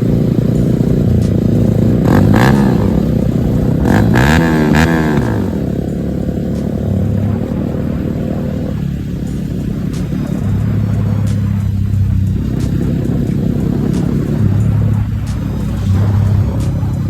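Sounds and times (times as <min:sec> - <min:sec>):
exhaust crackles: 0:00.0 - 0:17.0
motorcycle engine revving: 0:00.0 - 0:17.0.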